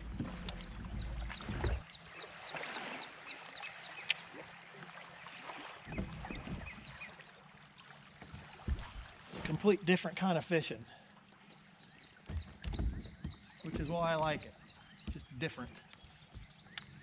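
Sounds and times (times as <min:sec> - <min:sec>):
faint water and outdoor noise: 0:00.0 - 0:17.0
songbirds chirping: 0:00.0 - 0:17.0.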